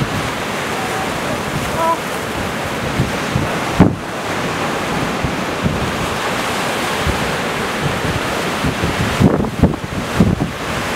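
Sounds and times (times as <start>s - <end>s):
surf breaking on rocky shore: 0.0s - 10.9s
wind on microphone: 0.0s - 10.9s.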